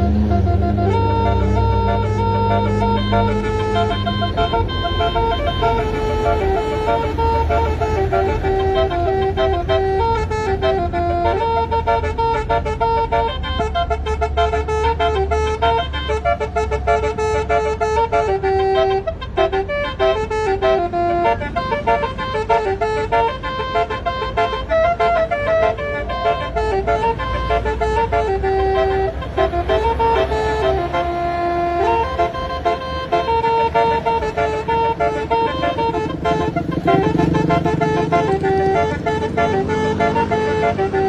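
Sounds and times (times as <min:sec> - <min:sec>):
low engine rumble: 0:00.0 - 0:41.0
multi-tone air horn melody: 0:00.0 - 0:41.0.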